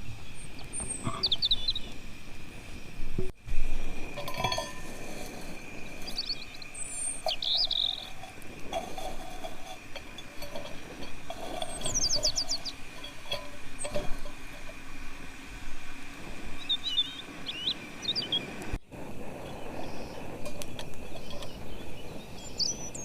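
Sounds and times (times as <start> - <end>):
birds chirping and trilling: 0.0 - 23.0.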